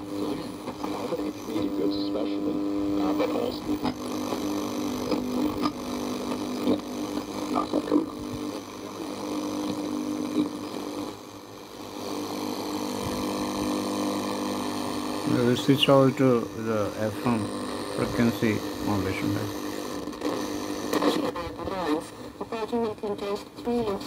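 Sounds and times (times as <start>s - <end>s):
radio humming drone with static: 0.0s - 24.0s.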